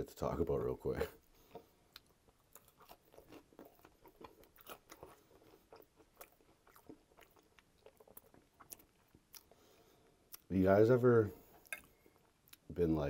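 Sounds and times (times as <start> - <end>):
chewing food: 1.2 - 10.5, 11.4 - 12.8.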